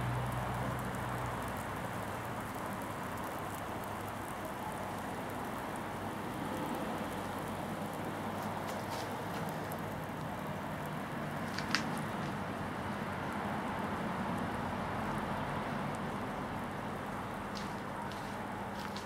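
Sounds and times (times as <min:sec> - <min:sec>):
cable insulation sizzling and crackling: 0:00.0 - 0:19.0.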